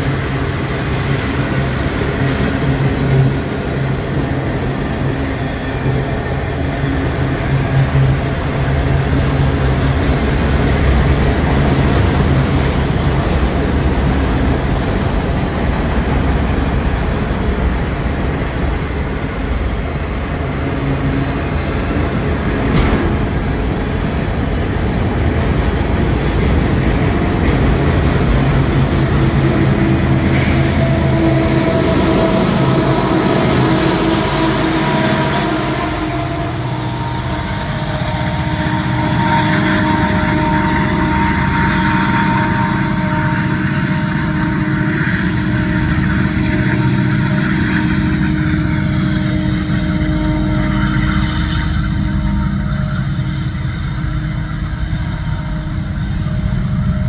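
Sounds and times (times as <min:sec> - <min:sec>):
rail cars rumbling on track: 0:00.0 - 0:57.0.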